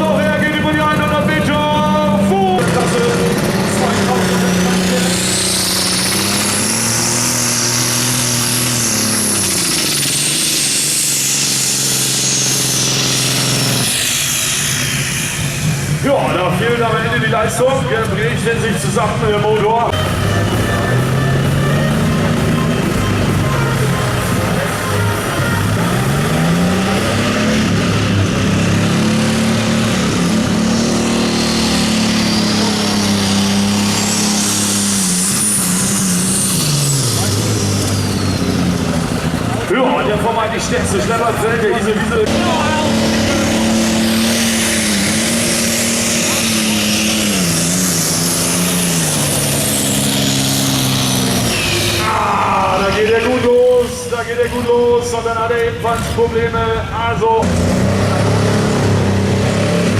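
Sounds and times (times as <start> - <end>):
diesel tractor engine roaring: 0.0 - 59.9.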